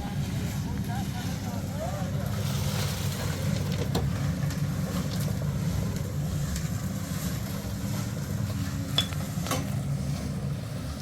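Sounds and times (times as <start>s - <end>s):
heavy engine droning: 0.0s - 11.0s.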